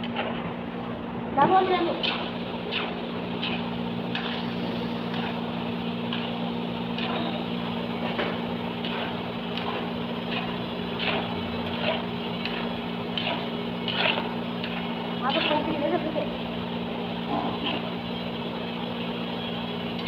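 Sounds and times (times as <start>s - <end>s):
food sizzling in hot oil: 1.6s - 20.0s.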